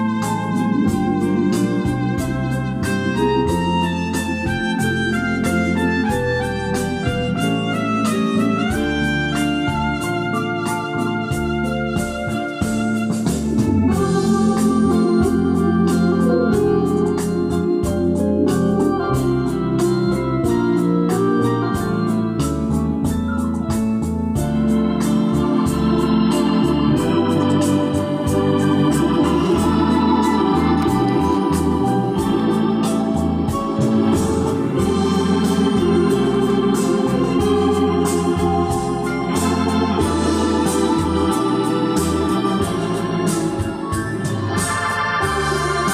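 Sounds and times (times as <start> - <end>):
music over loudspeakers: 0.0 - 45.9.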